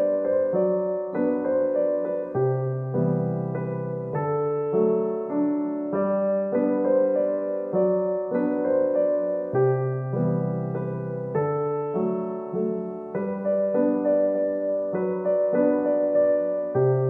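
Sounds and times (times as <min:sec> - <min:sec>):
slow electric piano music: 0:00.0 - 0:17.0.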